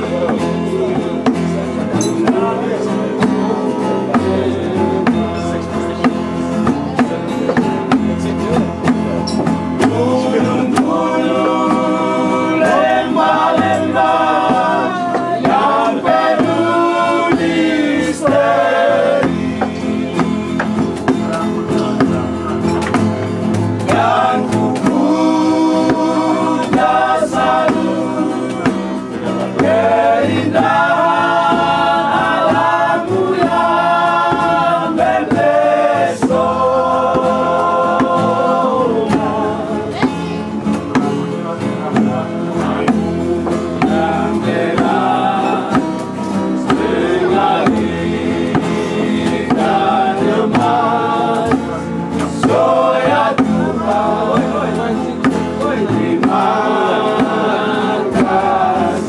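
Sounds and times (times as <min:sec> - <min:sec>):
acoustic guitar: 0:00.0 - 0:59.0
group singing: 0:00.0 - 0:59.0.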